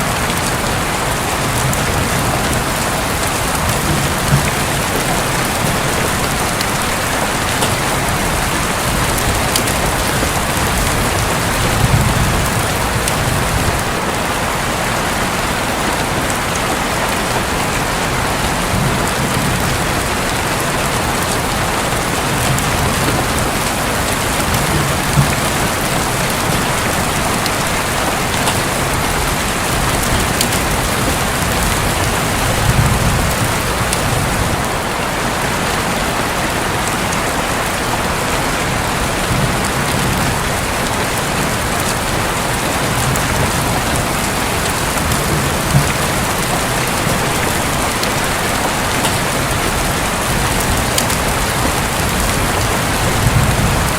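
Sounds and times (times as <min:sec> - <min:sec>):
distant thunder rumbling: 0:00.0 - 0:14.1, 0:17.0 - 0:35.0, 0:39.2 - 0:53.9
rain falling on a roof: 0:00.0 - 0:53.9.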